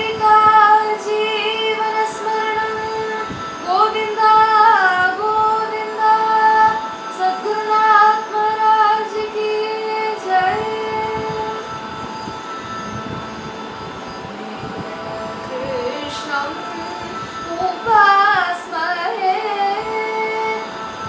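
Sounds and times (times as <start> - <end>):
girl singing devotional song: 0.0 - 11.8, 14.3 - 21.0
steady drone: 0.0 - 21.0.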